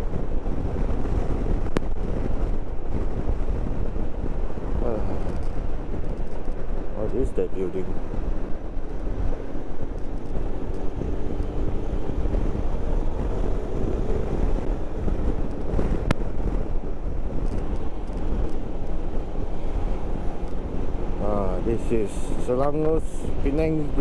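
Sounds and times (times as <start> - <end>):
motorcycle engine drone: 0.0 - 24.0
wind buffeting microphone: 0.0 - 24.0.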